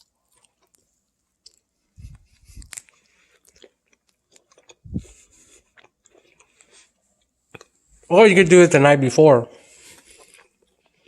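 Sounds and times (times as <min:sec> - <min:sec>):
person chewing food: 0:00.0 - 0:08.1, 0:09.6 - 0:11.0.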